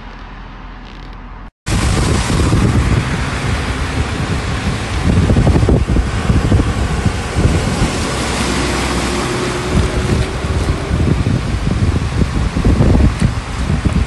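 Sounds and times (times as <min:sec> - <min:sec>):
traffic: 0:00.0 - 0:14.0
rushing water: 0:01.7 - 0:14.0
truck driving through floodwater: 0:01.7 - 0:14.0
wind buffeting microphone: 0:01.7 - 0:14.0.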